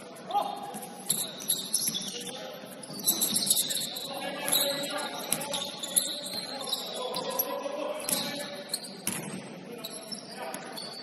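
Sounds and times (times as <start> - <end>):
shoes squeaking on court: 0.7 - 11.0.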